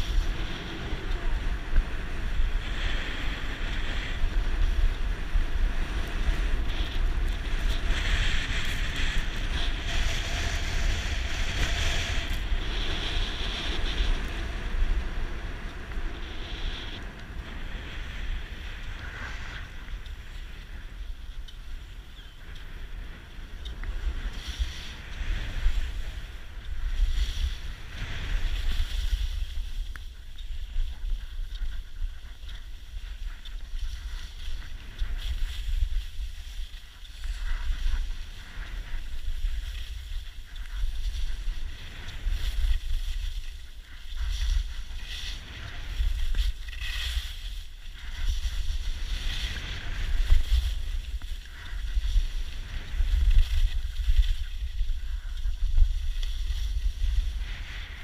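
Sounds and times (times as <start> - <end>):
skis scraping over snow: 0.0 - 58.0
wind buffeting microphone: 0.0 - 58.0.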